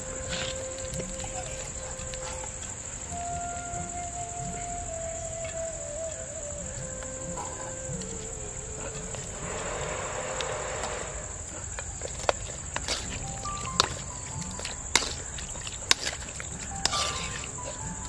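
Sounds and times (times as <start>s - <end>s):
insect trilling: 0.0s - 18.0s.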